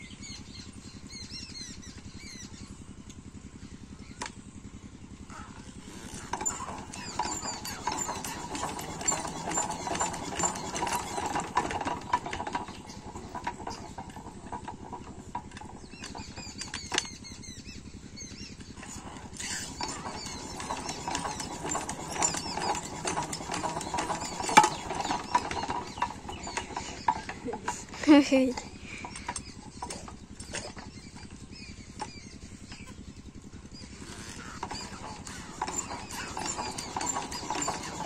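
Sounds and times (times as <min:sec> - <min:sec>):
diesel engine chugging: 0:00.0 - 0:38.0.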